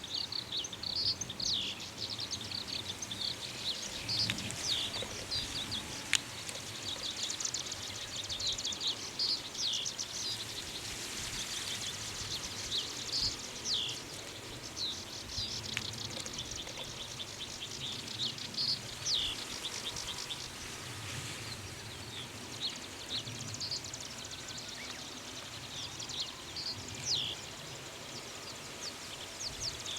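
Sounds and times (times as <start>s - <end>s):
steady outdoor hiss: 0.0s - 29.9s.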